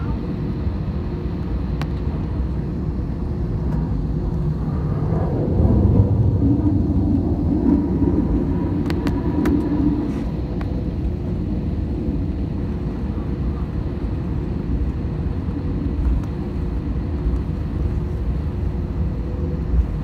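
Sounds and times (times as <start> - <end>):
airplane taxiing rumble: 0.0 - 20.0.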